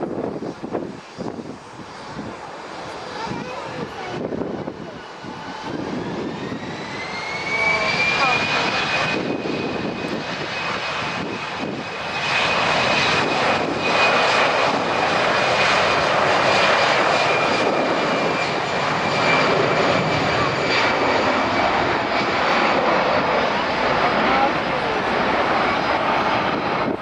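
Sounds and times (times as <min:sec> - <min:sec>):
jet engines roaring with whine: 0:00.0 - 0:27.0.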